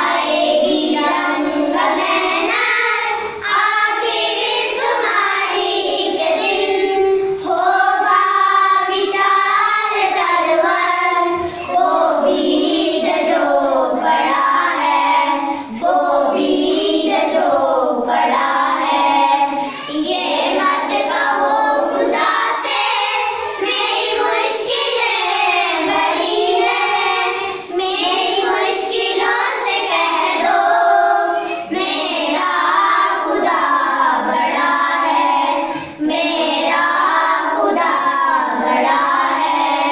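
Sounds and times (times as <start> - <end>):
children singing together: 0.0 - 39.9.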